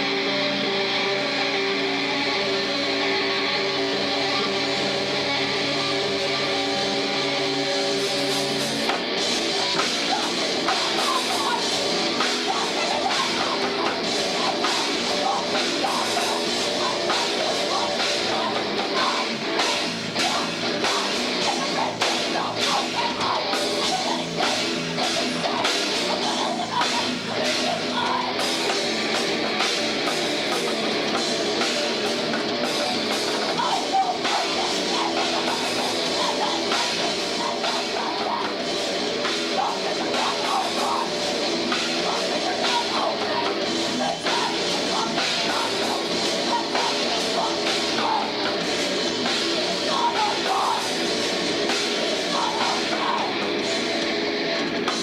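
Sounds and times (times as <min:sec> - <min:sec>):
heavy rock band playing live: 0:00.0 - 0:55.0
drum kit pounding: 0:03.7 - 0:55.0.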